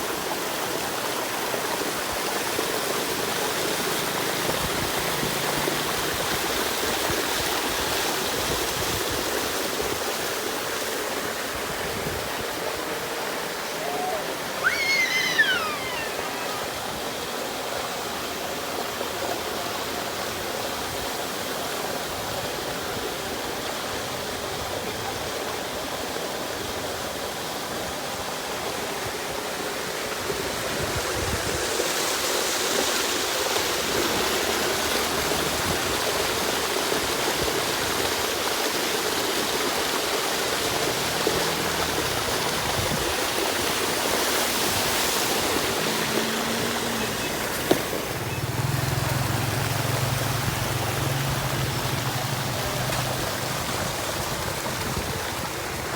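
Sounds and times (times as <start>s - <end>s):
pumped water gushing: 0.0s - 55.9s.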